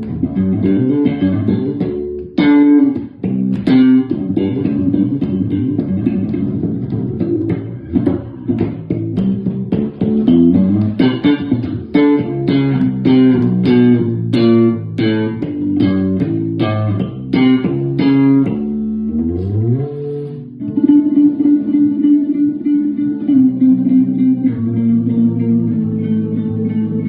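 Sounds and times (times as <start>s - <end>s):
bass guitar notes: 0.0s - 27.0s.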